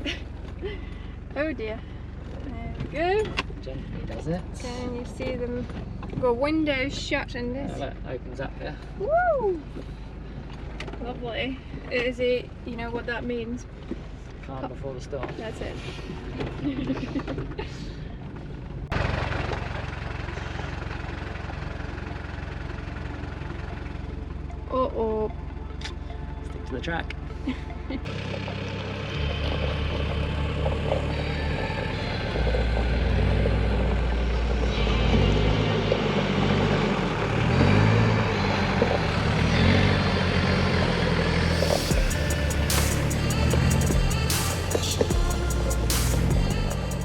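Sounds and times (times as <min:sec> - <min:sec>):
engine running: 0:00.0 - 0:47.0.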